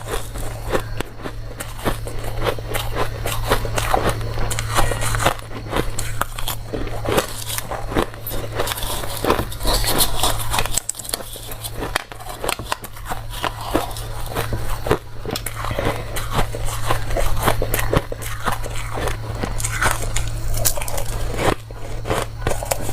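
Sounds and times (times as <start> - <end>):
ice being chewed: 0.0 - 22.9
steady low hum: 0.0 - 22.9.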